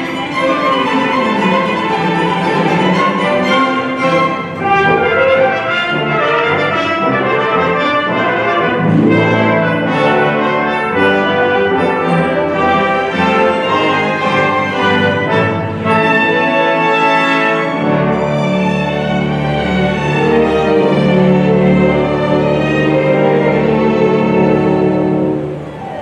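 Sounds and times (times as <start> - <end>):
brass section: 0.0 - 26.0
orchestra playing christmas carols: 0.0 - 26.0
strings: 0.0 - 26.0.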